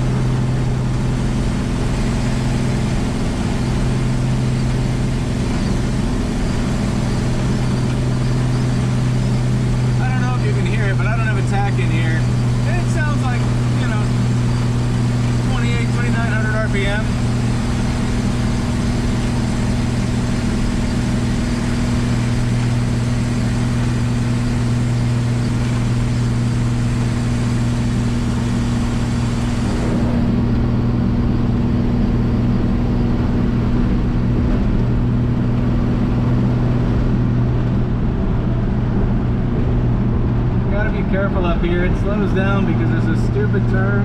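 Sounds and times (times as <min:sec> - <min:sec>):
road noise: 0:00.0 - 0:44.0
truck engine droning: 0:00.0 - 0:44.0.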